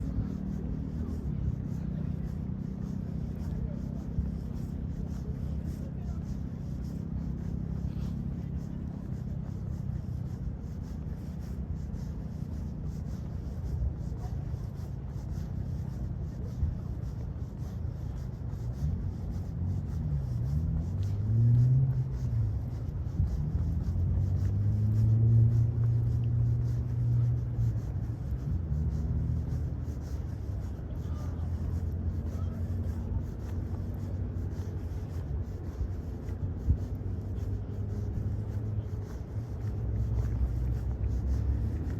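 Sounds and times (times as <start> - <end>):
road traffic rumble: 0.0 - 41.9
vehicles passing: 0.0 - 41.9.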